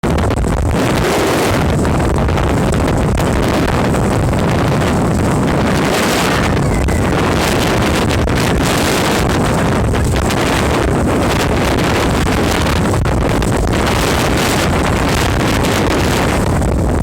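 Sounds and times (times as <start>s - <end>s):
water: 0.0s - 17.0s
wind rushing over microphone: 0.0s - 17.0s
boat motor: 1.6s - 17.0s.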